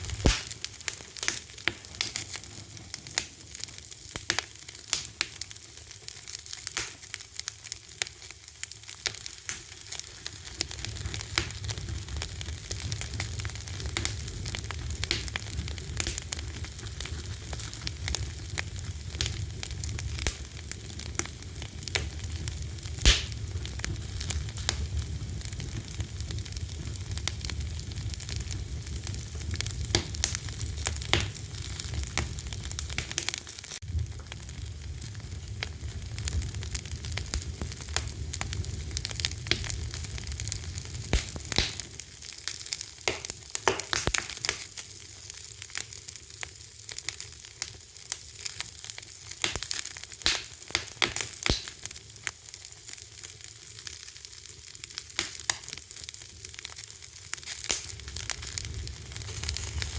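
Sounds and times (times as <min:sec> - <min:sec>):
low rumble of flames: 0:00.0 - 0:50.4, 0:51.3 - 0:59.9
fire crackling and popping: 0:00.0 - 0:59.9.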